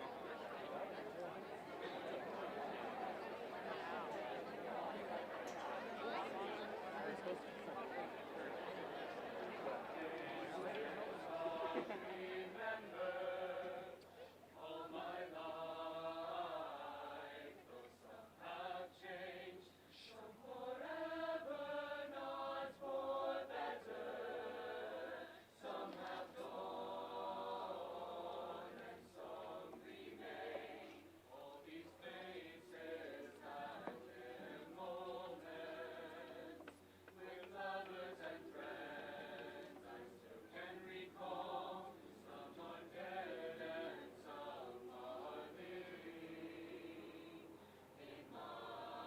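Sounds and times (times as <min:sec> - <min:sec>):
choir singing: 0:00.0 - 0:49.0.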